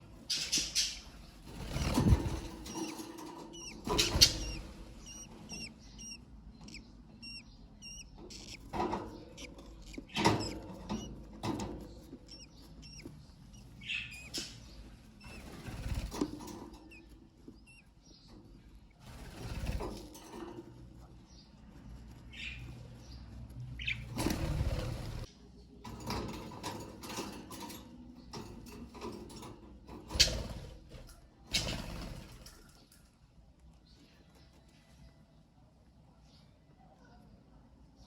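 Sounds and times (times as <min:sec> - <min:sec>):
budgerigar chicks peeping: 0:00.0 - 0:25.3, 0:26.5 - 0:35.5
knocks and rustles: 0:00.2 - 0:33.0.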